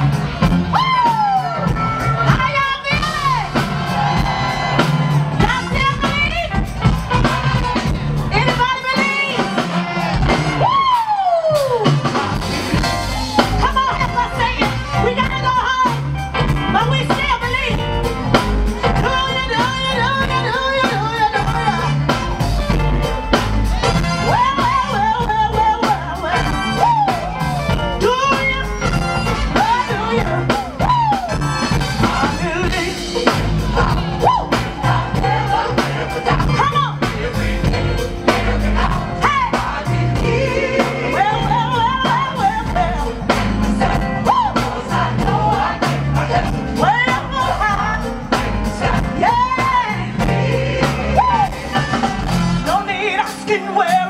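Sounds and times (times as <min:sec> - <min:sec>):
heavy bass line: 0:00.0 - 0:10.8, 0:11.8 - 0:53.0
lead singer: 0:00.0 - 0:54.0
steady drum beat: 0:00.0 - 0:54.0
gospel choir singing: 0:03.0 - 0:08.4, 0:09.0 - 0:11.0, 0:17.4 - 0:54.0.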